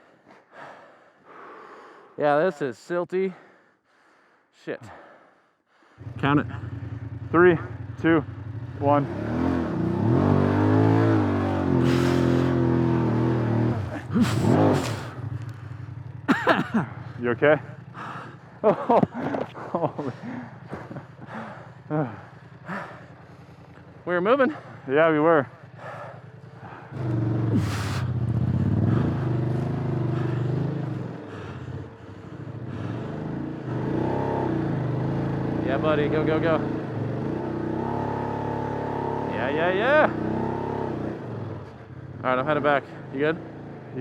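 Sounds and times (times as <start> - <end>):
motorcycle engine revving: 6.0 - 44.0.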